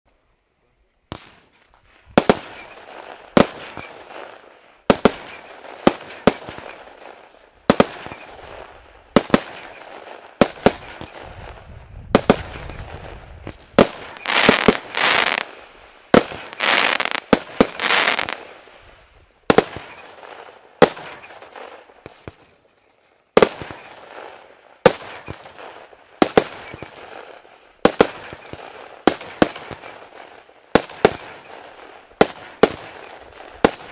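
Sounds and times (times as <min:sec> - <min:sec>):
firework bangs: 0:01.1 - 0:18.7, 0:19.5 - 0:22.6, 0:23.4 - 0:33.9.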